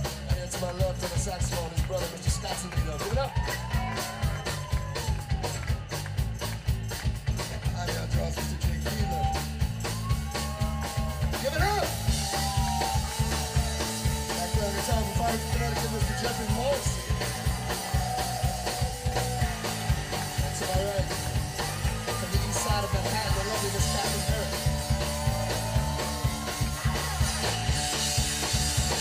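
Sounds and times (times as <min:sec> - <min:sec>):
bass guitar: 0:00.0 - 0:29.0
drums: 0:00.0 - 0:29.0.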